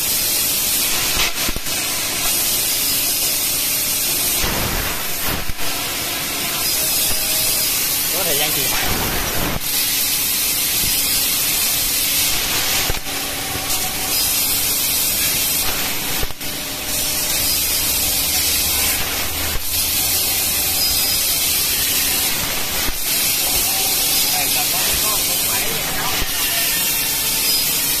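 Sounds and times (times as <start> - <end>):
hiss of gas jetting: 0.0 - 28.0.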